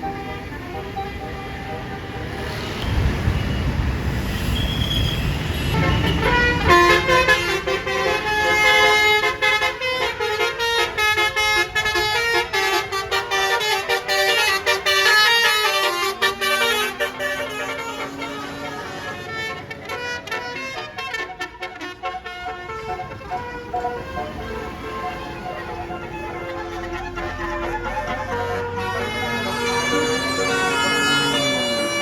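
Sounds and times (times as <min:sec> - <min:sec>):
bus horn playing melody: 0:00.0 - 0:03.3, 0:05.3 - 0:32.0
bus rumbling: 0:00.0 - 0:32.0.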